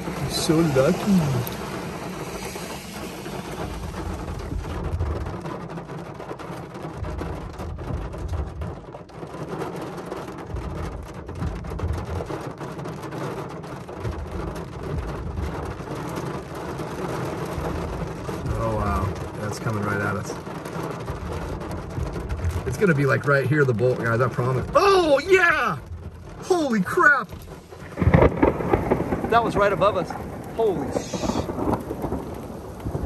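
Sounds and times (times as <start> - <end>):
low thunder rumbles: 0.0 - 33.0
rain on a car roof: 0.0 - 33.0.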